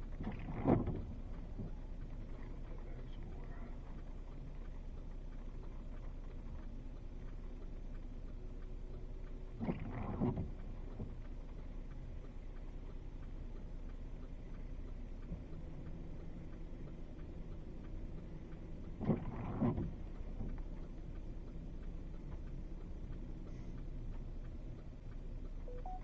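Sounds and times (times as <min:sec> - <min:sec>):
low rumble inside car: 0:00.0 - 0:26.0
windshield wipers sweeping: 0:00.0 - 0:26.0.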